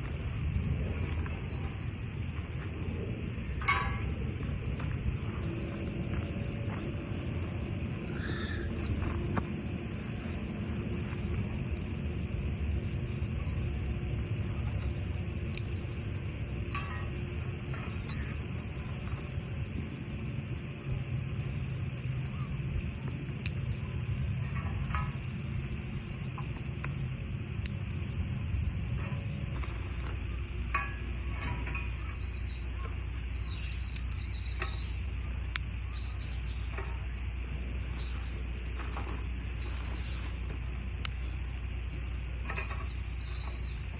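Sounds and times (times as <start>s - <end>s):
crickets chirring: 0.0s - 43.9s
low rumble: 0.0s - 43.9s.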